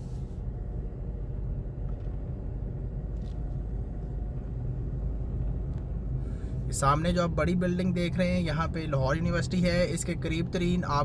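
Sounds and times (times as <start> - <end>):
low rumble of outdoor background: 0.0 - 11.0.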